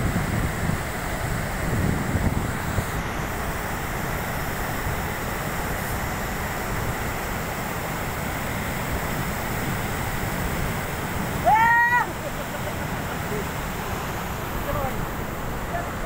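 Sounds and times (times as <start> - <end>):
river rushing over boulders: 0.0 - 16.0.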